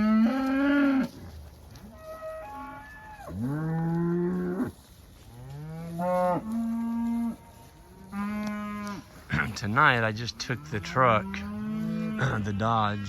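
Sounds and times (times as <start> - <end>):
cattle mooing: 0.0 - 1.2, 1.8 - 13.0.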